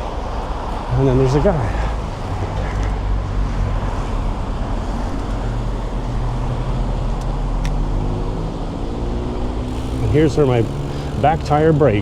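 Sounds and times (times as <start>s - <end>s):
road traffic rumble: 0.0s - 12.0s
low engine hum: 1.9s - 12.0s.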